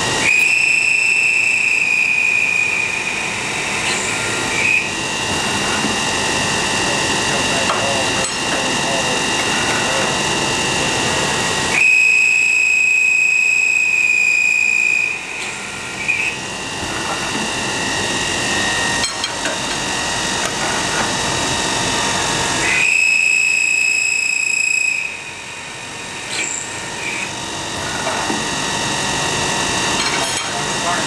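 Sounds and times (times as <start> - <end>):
high-pitched ringing cutting squeal: 0.0 - 31.0
machine running noise: 0.0 - 31.0.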